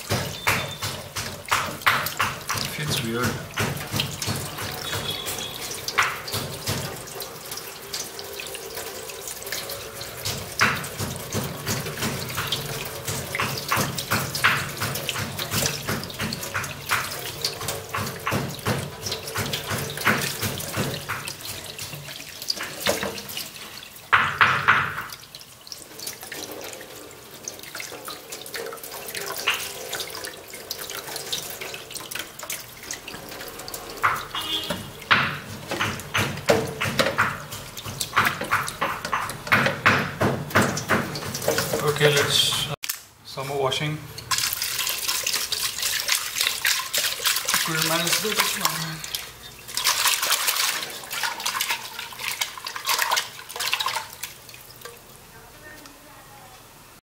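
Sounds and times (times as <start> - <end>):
hands rinsing chicken under water: 0.0 - 56.0
tap water running into sink: 0.0 - 56.0.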